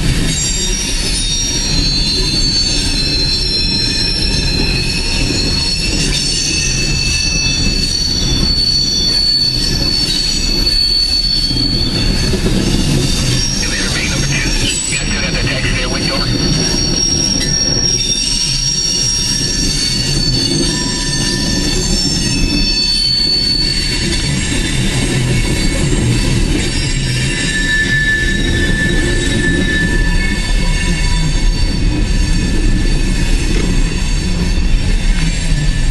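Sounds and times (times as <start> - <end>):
freight train rumbling: 0.0 - 35.9
train wheels squealing: 0.0 - 35.9.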